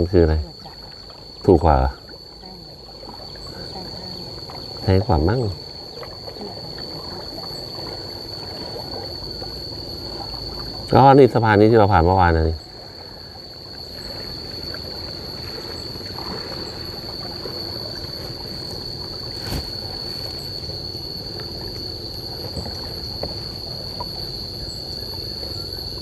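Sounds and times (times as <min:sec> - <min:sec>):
water lapping around hull: 0:00.0 - 0:26.0.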